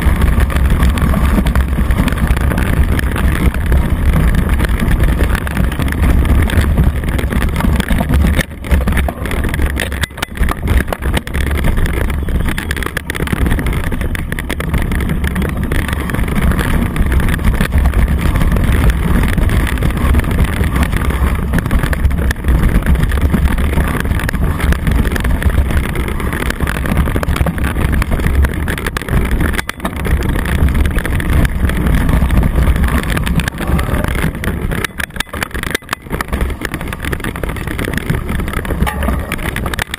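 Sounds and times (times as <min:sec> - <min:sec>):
tyre rolling over dirt trail: 0:00.0 - 0:39.9
wind buffeting microphone: 0:00.0 - 0:39.9.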